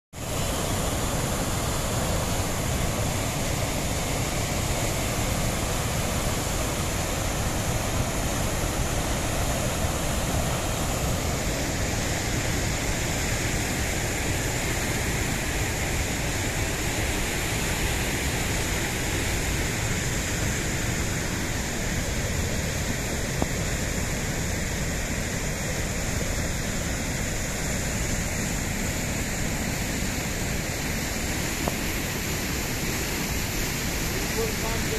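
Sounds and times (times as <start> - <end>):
floodwater rushing: 0.2 - 34.9
high hiss: 0.2 - 34.9.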